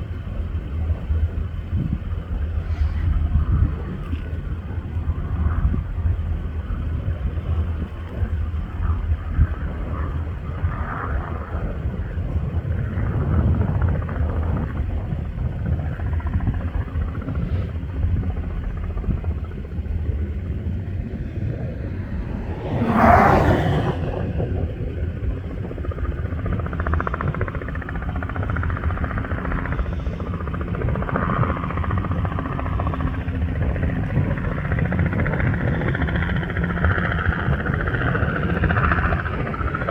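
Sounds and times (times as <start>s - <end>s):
helicopter rumbling: 0.0s - 39.9s.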